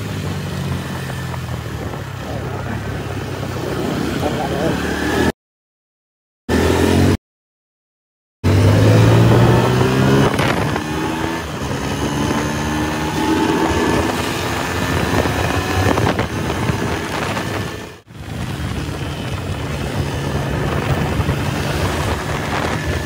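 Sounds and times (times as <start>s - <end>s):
motorcycle engine running: 0.0s - 5.3s, 8.4s - 23.0s.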